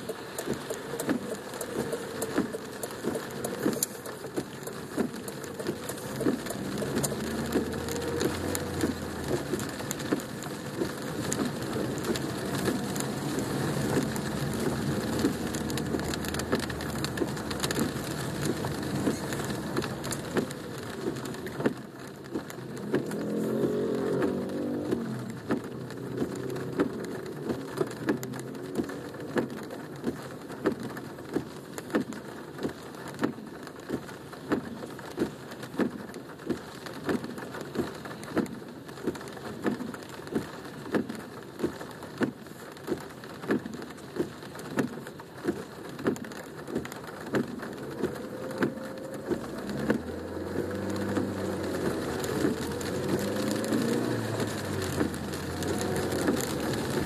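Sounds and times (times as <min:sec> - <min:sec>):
car rumbling on wet road: 0:00.0 - 0:57.0
rain drumming on car roof: 0:00.0 - 0:57.0.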